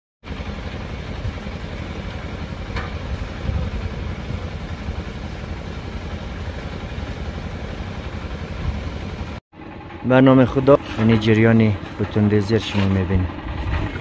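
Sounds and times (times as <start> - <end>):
concrete mixer engine running: 0.2 - 14.0.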